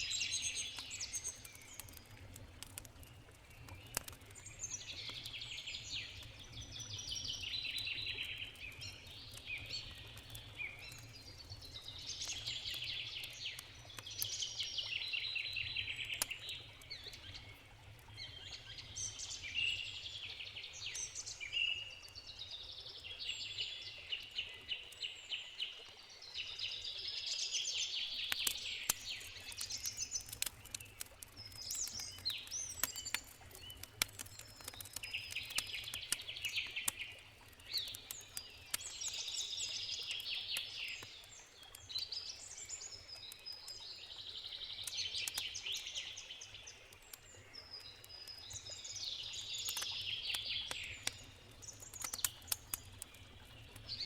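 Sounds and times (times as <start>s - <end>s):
campfire crackling: 0.0s - 23.0s, 27.1s - 54.0s.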